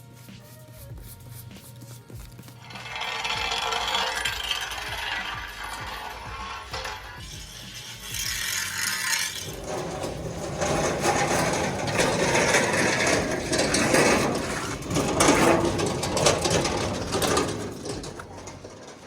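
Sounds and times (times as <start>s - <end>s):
mechanical metal rattling: 2.6s - 19.0s.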